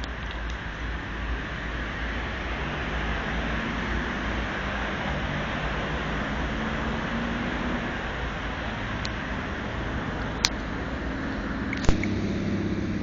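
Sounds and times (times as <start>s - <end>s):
low engine hum: 0.0s - 13.0s
road traffic noise: 0.0s - 13.0s.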